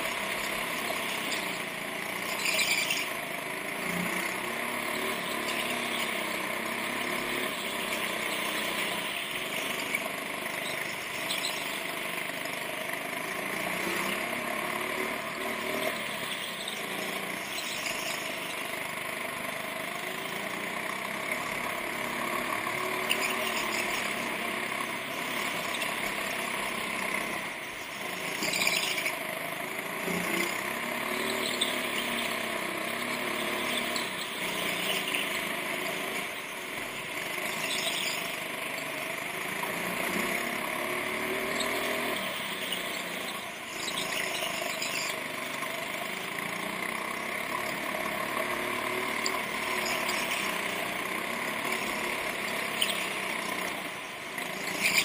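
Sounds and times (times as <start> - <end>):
tyre squeal: 0.0 - 12.1, 15.3 - 18.8, 21.9 - 29.4, 30.1 - 39.0, 39.7 - 45.6, 47.1 - 55.0
go-kart engine revving: 0.0 - 55.0.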